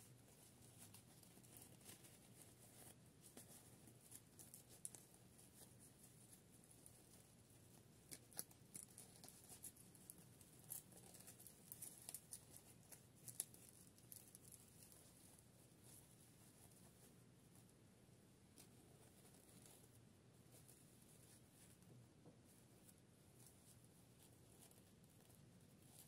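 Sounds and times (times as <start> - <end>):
soft fabric rustles: 0.0 - 26.0.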